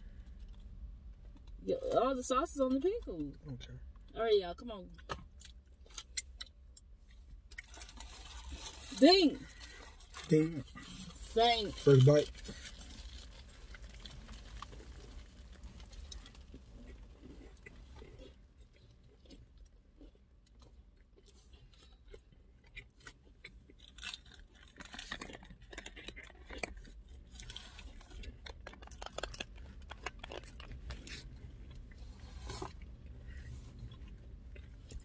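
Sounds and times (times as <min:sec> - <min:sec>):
low steady hum: 0:00.0 - 0:35.0
crunching of crispy food: 0:04.9 - 0:35.0.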